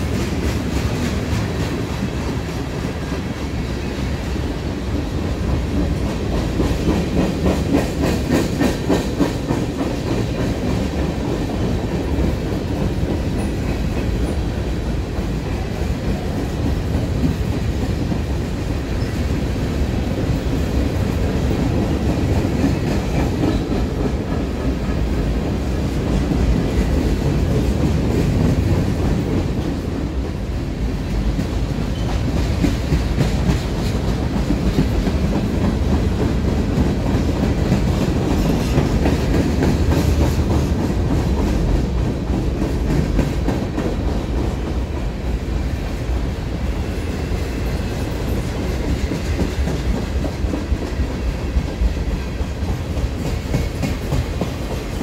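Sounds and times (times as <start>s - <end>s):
train wheels rumbling and clicking: 0.0s - 55.0s.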